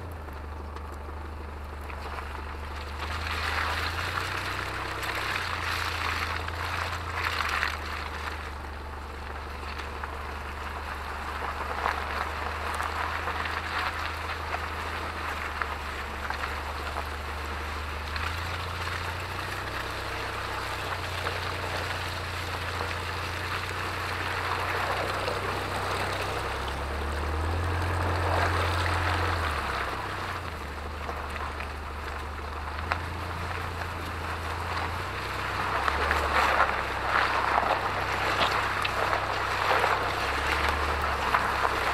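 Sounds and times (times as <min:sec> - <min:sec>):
low vehicle rumble: 0:00.0 - 0:41.9
tyres rolling over wet mud and gravel: 0:00.0 - 0:41.9.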